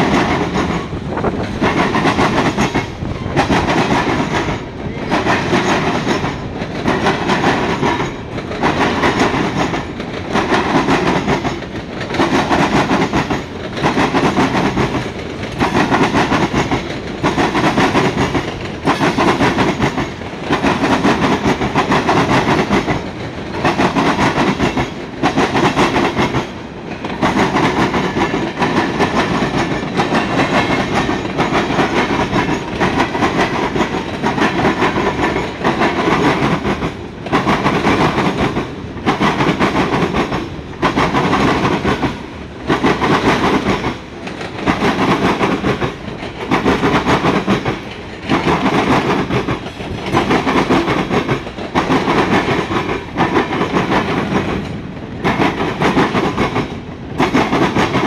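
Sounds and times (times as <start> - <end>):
freight train wheels clattering: 0.0 - 58.0.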